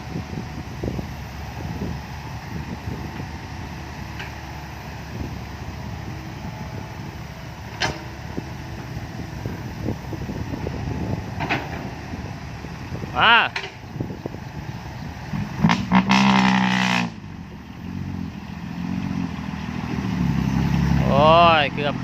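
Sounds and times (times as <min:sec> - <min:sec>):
heavy diesel machinery rumbling: 0:00.0 - 0:22.0.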